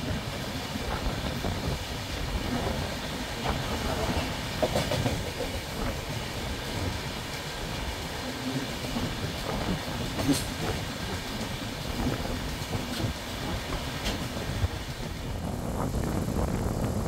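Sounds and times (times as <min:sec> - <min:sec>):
wheels clicking over rail joints: 0:00.0 - 0:15.0
train wheels rumbling on rail: 0:00.0 - 0:17.0.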